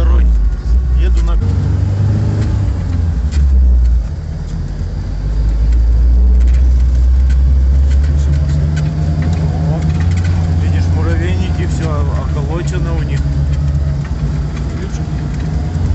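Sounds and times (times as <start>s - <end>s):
petrol engine droning under load: 0.0s - 15.9s.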